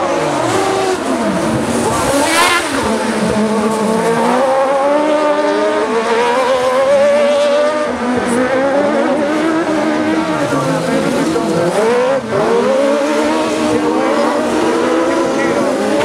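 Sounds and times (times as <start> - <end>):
racing buggy engines revving: 0.0 - 16.0.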